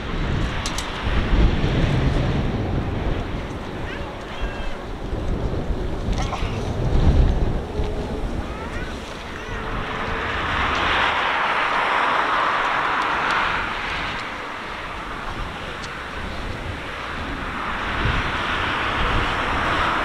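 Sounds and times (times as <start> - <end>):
distant jet engine rush: 0.0 - 20.0.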